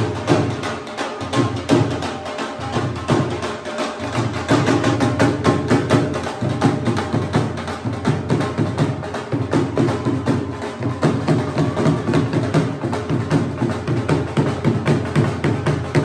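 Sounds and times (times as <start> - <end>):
dhol drum beat: 0.0 - 16.0.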